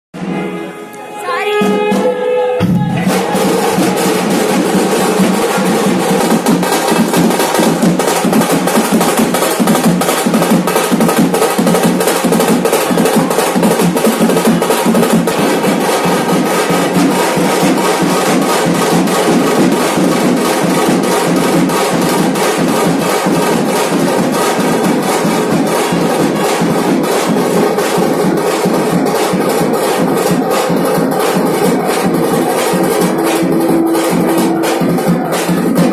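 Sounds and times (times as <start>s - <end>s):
dhol drums playing fast beat: 1.3s - 35.9s.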